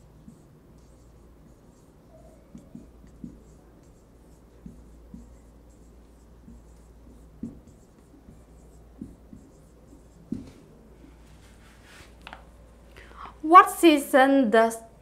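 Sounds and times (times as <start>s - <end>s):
marker pen writing on whiteboard: 0.0s - 12.7s.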